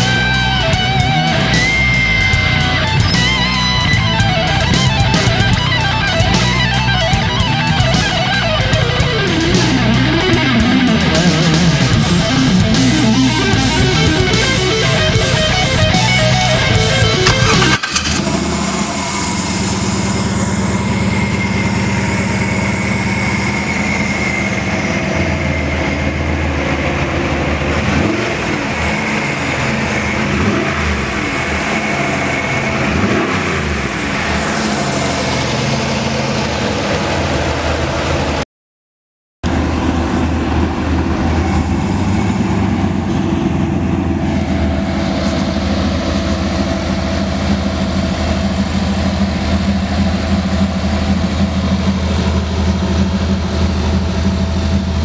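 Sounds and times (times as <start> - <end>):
car engine idling and revving: 0.0 - 38.4, 39.4 - 55.0
steady high whine: 0.0 - 38.4, 39.4 - 55.0.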